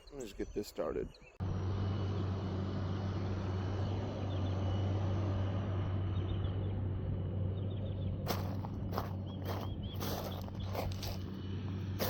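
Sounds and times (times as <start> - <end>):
engine running steadily: 1.4 - 12.0.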